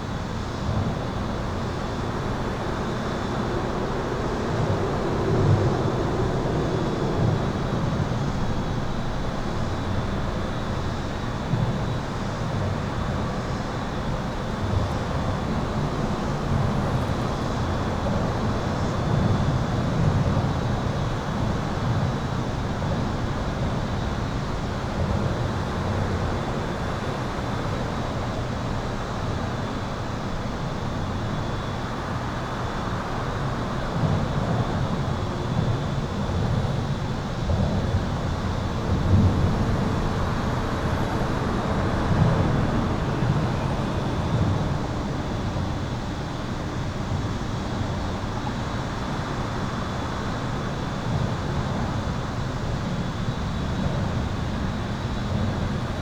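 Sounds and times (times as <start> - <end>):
highway traffic rumble: 0.0 - 56.0.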